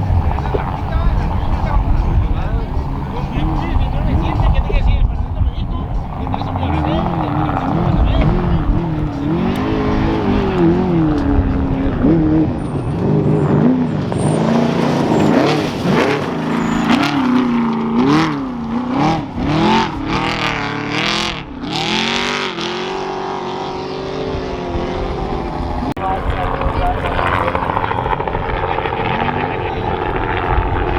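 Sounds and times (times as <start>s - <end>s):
truck engine revving: 0.0s - 30.9s
vehicle rushing past: 0.0s - 30.9s.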